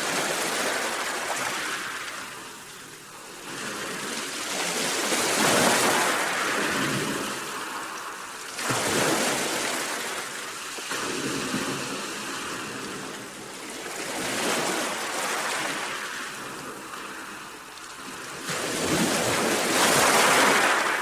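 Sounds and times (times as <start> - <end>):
sea waves breaking: 0.0 - 21.0.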